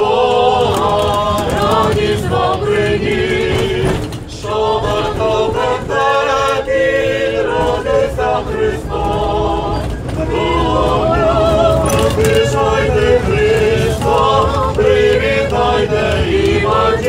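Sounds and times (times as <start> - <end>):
group singing unaccompanied: 0.0 - 17.0
tram wheels rumbling: 0.0 - 17.0.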